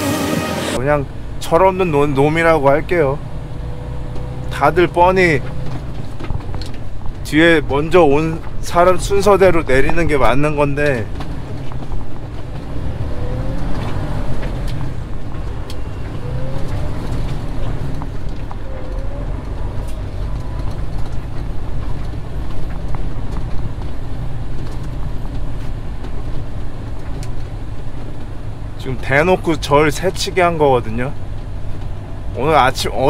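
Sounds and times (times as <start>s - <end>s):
truck engine running low: 0.0s - 33.0s
tyres rolling on gravel: 0.9s - 33.0s.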